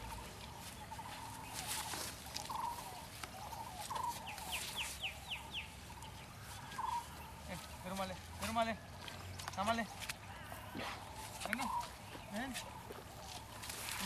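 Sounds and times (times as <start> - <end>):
buzzy bird calls: 0.0 - 8.7, 9.6 - 14.0.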